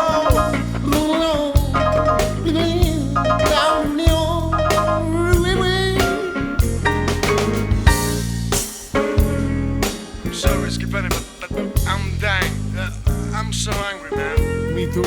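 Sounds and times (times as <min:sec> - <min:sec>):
bass line: 0:00.0 - 0:15.0
drum beat: 0:00.0 - 0:15.0
sliding lead melody: 0:00.0 - 0:15.0.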